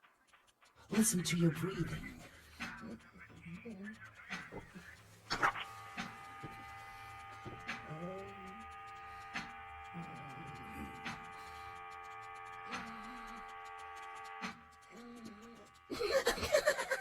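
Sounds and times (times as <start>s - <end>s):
machine electrical hum: 0.9s - 17.0s.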